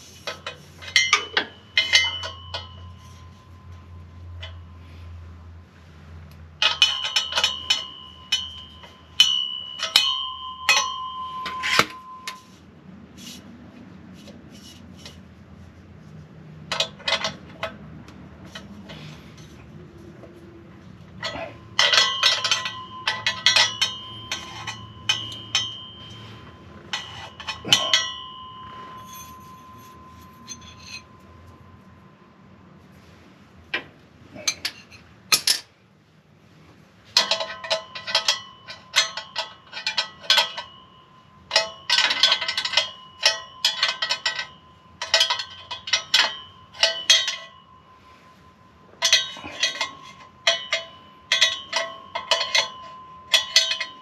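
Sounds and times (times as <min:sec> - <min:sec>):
metal pipes clanking: 0:00.0 - 0:05.3, 0:06.3 - 0:13.5, 0:16.6 - 0:32.6, 0:33.7 - 0:35.8, 0:37.0 - 0:54.0
high metallic ring: 0:00.0 - 0:15.2, 0:16.0 - 0:33.3, 0:37.0 - 0:54.0.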